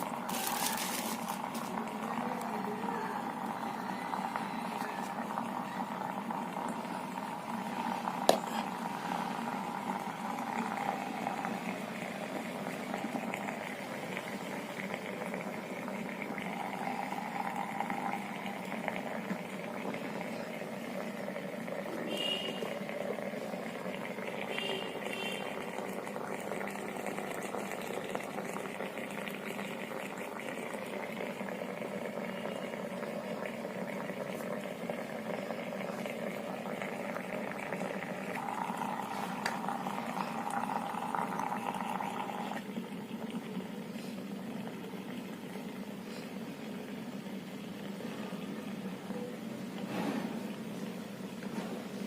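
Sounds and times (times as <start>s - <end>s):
steam vaporizer bubbling hiss: 0.0s - 52.0s.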